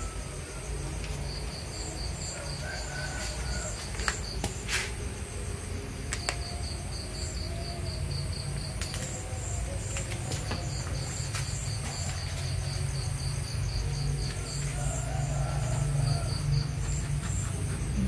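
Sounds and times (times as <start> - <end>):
crickets chirping: 0.0 - 18.0
low steady hum: 0.0 - 18.0.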